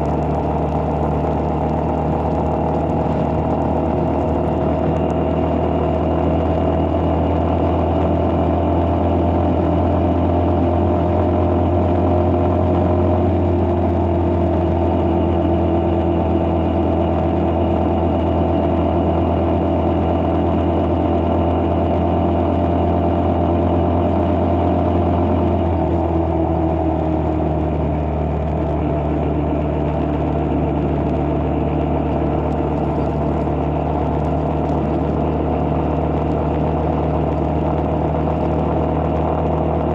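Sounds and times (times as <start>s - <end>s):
vehicle engine cruising: 0.0s - 39.9s.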